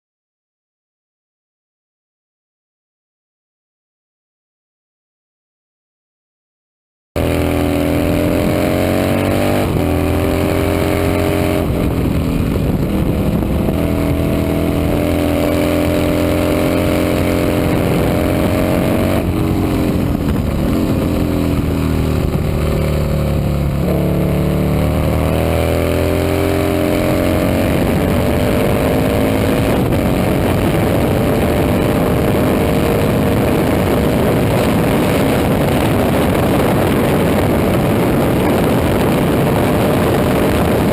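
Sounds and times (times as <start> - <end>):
racing motorcycle engine at full throttle: 7.2 - 40.9.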